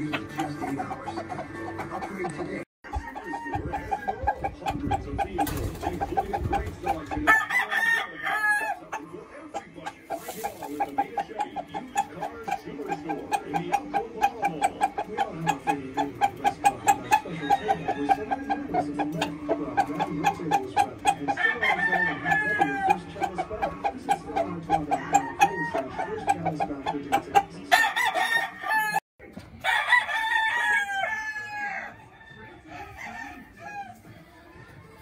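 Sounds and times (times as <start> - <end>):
roosters crowing: 0.0 - 4.7, 5.4 - 26.8, 27.5 - 29.0, 29.6 - 34.2
chickens clucking: 0.0 - 35.0.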